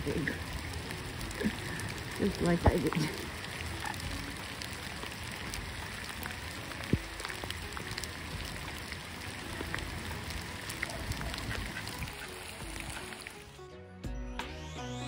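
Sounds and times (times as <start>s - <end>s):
rain falling: 0.0s - 13.7s.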